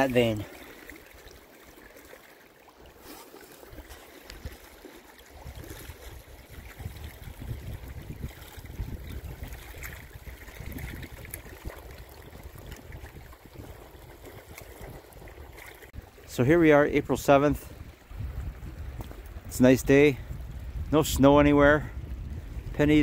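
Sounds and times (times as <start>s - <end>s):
water lapping among rocks: 0.0s - 20.9s
wind rumble on microphone: 3.7s - 23.0s.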